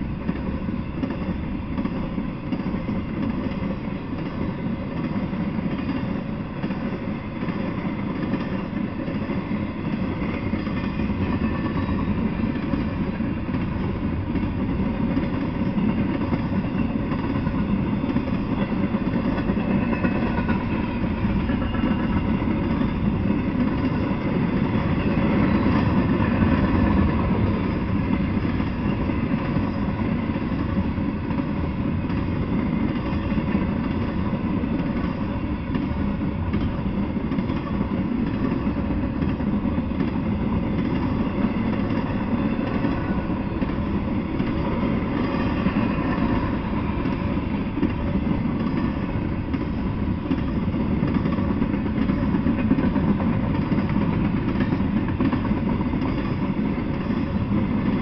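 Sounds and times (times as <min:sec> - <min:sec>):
steel wheels on rails: 0:00.0 - 0:58.0.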